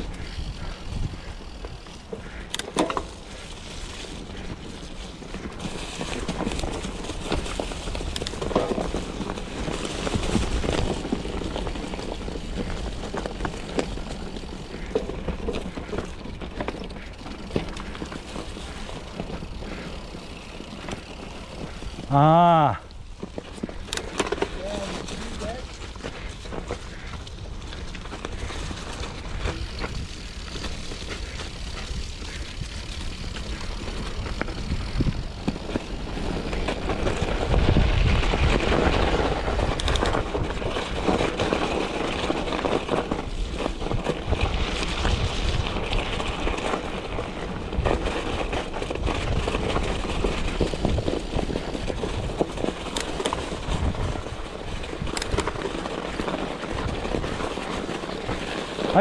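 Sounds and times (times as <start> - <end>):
bike tyres rolling and rattling: 0.0 - 59.0.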